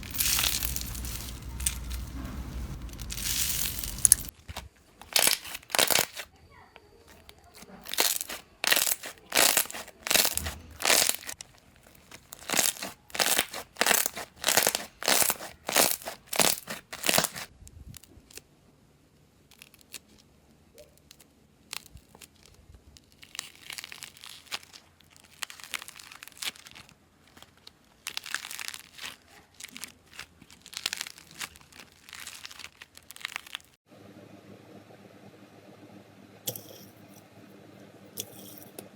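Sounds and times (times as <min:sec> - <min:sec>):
slime squishing and crackling: 0:00.0 - 0:06.4, 0:07.0 - 0:18.4, 0:19.3 - 0:33.8.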